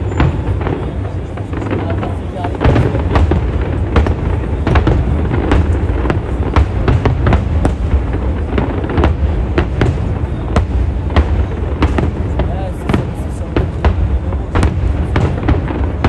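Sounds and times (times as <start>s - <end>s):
continuous low rumble: 0.0s - 16.0s
fireworks bursting with sharp bangs: 0.0s - 16.0s.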